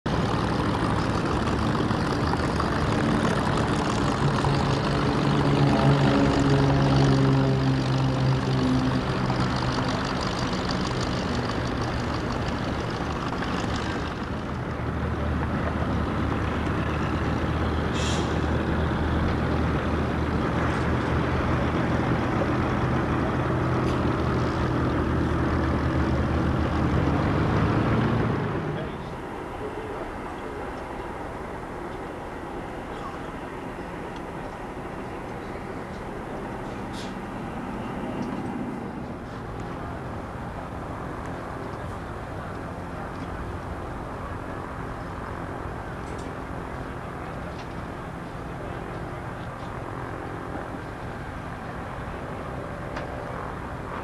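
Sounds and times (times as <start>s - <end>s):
heavy engines running: 0.0s - 54.0s
low steady drone: 0.1s - 54.0s.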